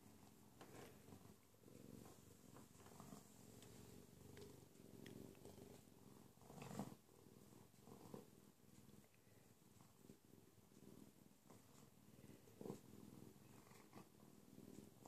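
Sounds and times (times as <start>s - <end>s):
bobcat purring: 0.0s - 15.0s.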